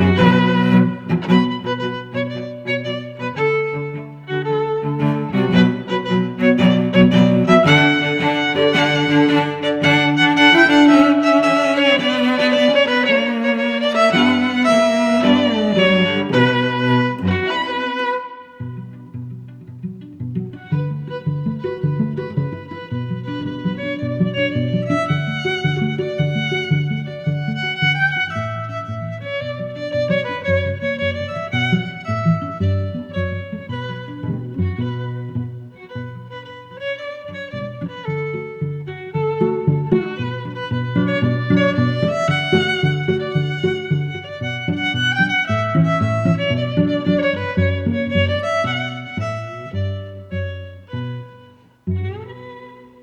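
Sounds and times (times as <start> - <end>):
bowed strings playing slow notes: 0.0 - 53.0
violin-like melody: 0.0 - 53.0.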